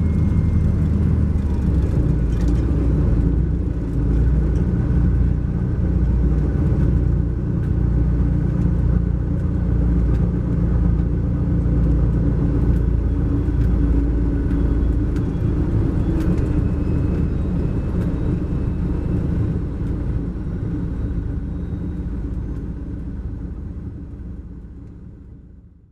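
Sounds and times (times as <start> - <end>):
bus engine and road rumble: 0.0 - 25.9.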